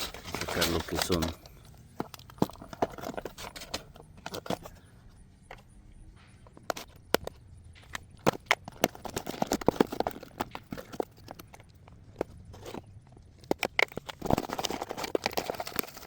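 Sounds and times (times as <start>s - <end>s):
small parts and packaging clicking: 0.0s - 16.0s.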